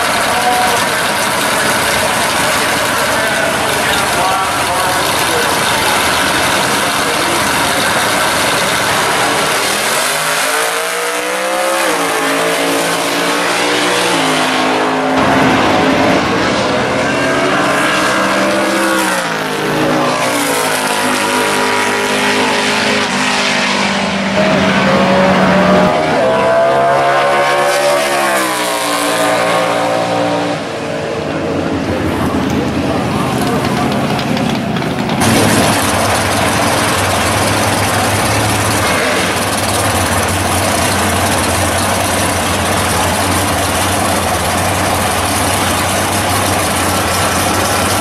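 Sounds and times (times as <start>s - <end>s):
racing car engines at full throttle: 0.0s - 48.0s.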